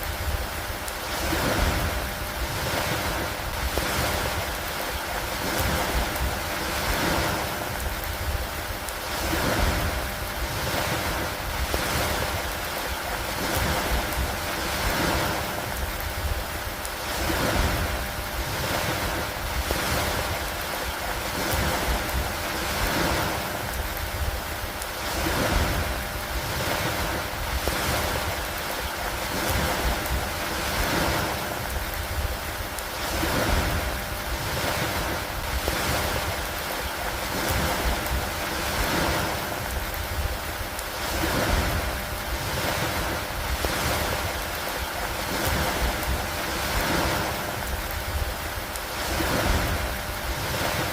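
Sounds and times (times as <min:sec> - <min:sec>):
constant low rumble: 0:00.0 - 0:50.9
rain with wind: 0:00.0 - 0:50.9.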